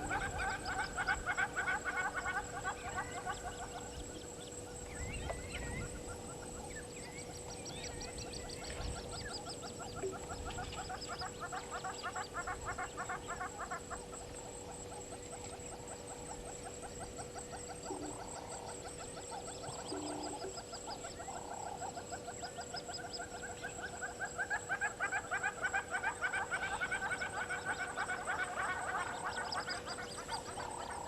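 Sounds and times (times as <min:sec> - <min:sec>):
birds chattering trills: 0:00.0 - 0:31.0.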